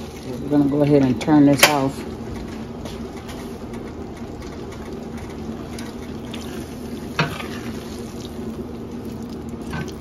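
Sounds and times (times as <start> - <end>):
pot filling simmering and sizzling: 0.0 - 10.0.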